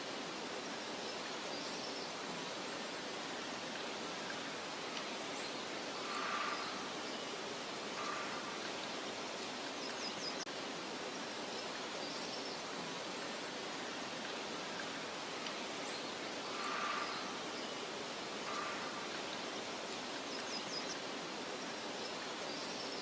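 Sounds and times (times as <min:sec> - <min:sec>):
wind in grass and foliage: 0:00.0 - 0:23.0.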